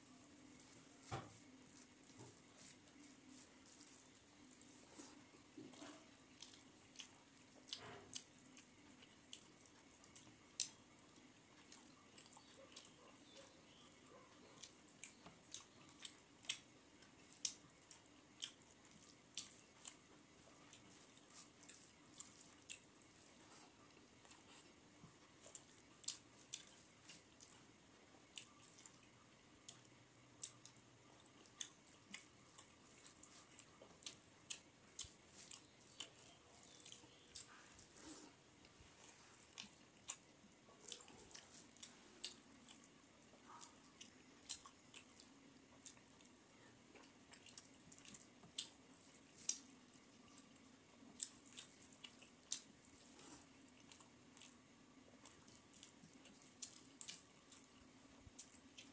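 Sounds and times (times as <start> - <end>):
fingers squishing rice: 0.0 - 58.9
chewing and wet mouth smacks: 1.3 - 27.6, 28.2 - 58.9.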